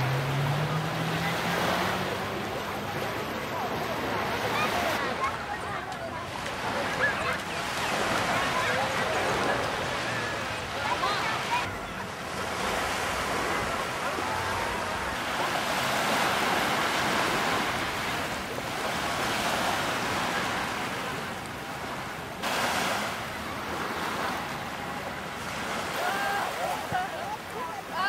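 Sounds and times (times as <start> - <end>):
waves washing onto sand: 0.0 - 28.0.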